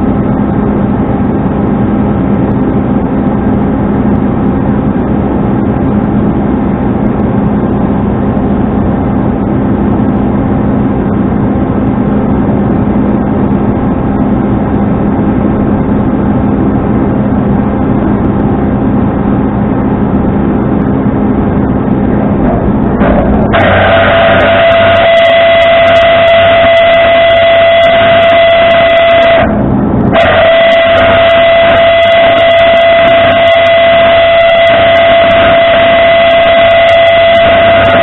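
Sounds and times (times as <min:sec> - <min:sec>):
high-pitched whine: 0:00.0 - 0:38.0
truck engine running: 0:00.0 - 0:38.0.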